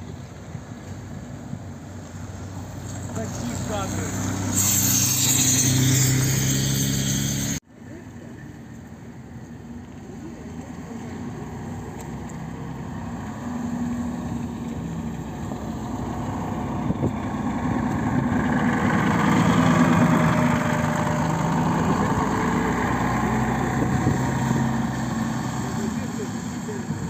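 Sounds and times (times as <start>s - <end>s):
bus engine driving past: 0.0s - 27.0s.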